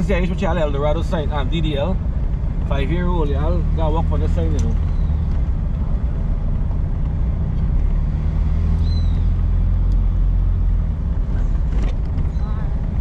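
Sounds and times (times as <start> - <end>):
car engine: 0.0 - 13.0
road rumble: 0.0 - 13.0.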